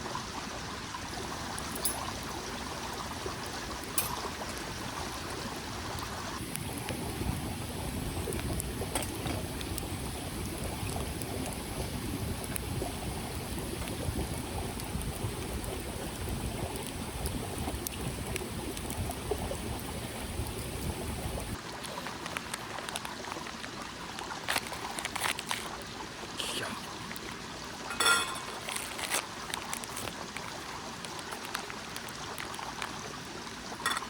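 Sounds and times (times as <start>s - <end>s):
mountain stream running: 0.0s - 34.0s.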